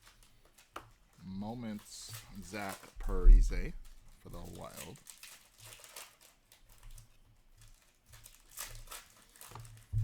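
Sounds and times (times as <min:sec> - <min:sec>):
paper and plastic rustling: 0:00.0 - 0:10.0.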